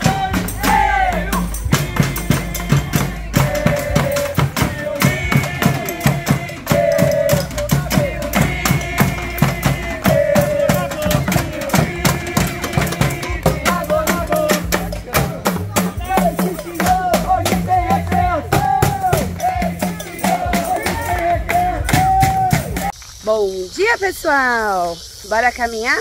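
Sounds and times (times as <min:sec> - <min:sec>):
music with steady drum beat: 0:00.0 - 0:23.0.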